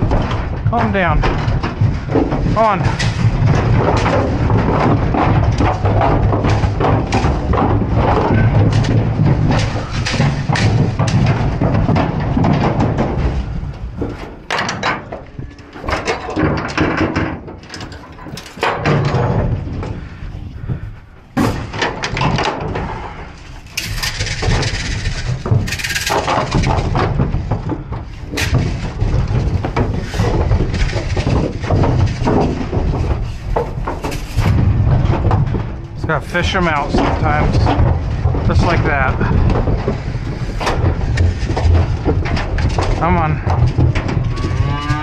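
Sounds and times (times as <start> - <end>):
cattle moving on trailer floor: 0.0 - 45.0
metal gates and chain clanking: 0.0 - 45.0
metal scraping: 0.0 - 45.0.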